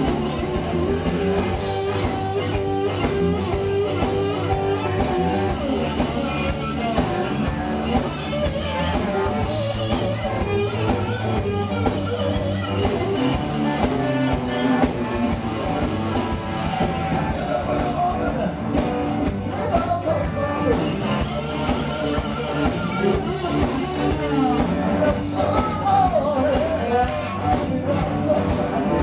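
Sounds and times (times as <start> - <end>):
drum kit: 0.0 - 29.0
electric bass: 0.0 - 29.0
electric guitars: 0.0 - 29.0.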